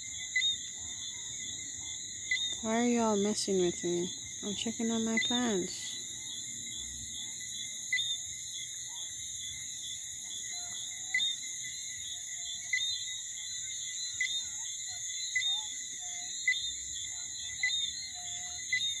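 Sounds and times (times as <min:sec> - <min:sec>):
insect chirping: 0:00.0 - 0:19.0
insects trilling: 0:00.0 - 0:19.0.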